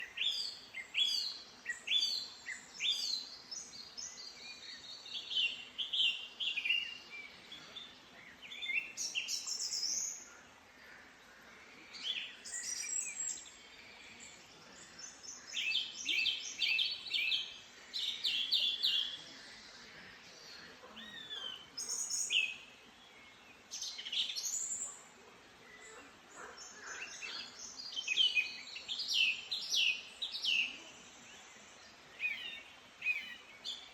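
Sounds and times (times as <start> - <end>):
faint background hiss: 0.0 - 33.9
songbirds chirping and trilling: 0.0 - 33.9.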